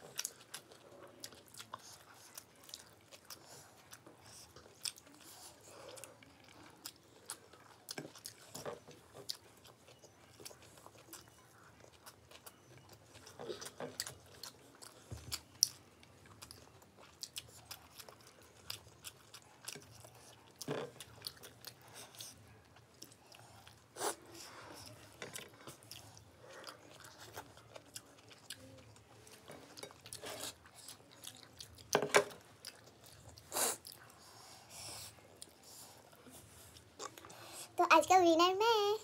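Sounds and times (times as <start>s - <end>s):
people chewing: 0.0s - 37.8s.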